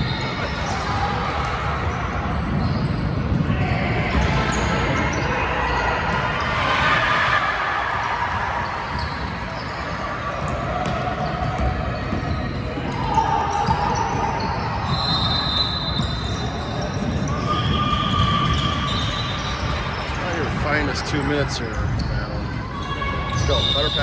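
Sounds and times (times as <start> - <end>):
crowd chatter and calls: 0.0 - 24.0
basketball bouncing on court: 0.1 - 20.2.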